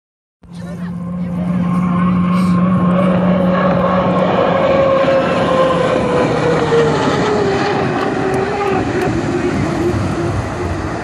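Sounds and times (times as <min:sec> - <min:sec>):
racing boat engine passing by: 0:00.5 - 0:11.0.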